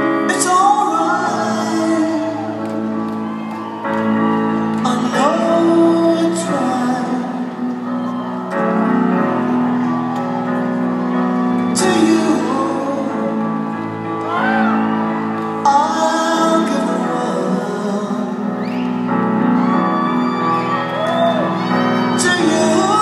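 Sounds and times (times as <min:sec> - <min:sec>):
piano accompaniment: 0:00.0 - 0:23.0.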